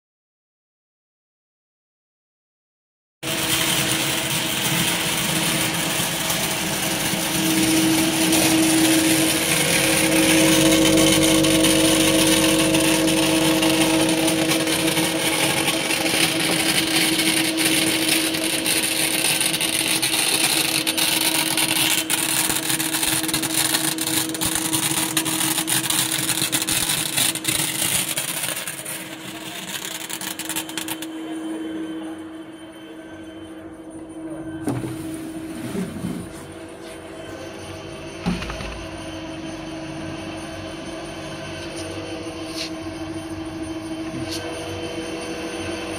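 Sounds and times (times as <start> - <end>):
machine hum: 3.2 - 45.9.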